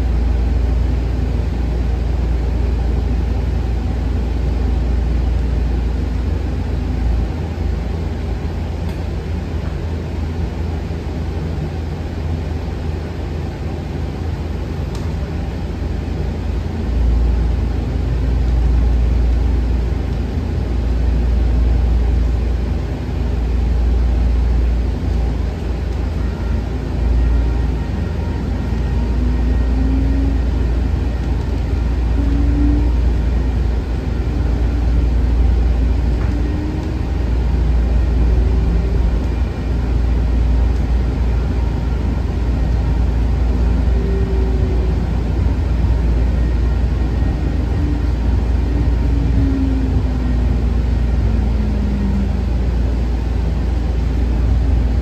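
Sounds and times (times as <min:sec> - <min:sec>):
faint whine: 0:00.0 - 0:55.0
light rail car rumble: 0:00.0 - 0:55.0.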